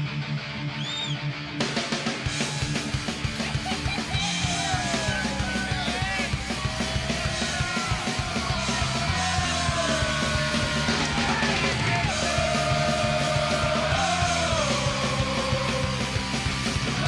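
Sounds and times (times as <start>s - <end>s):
punk rock music with singing: 0.0s - 17.0s.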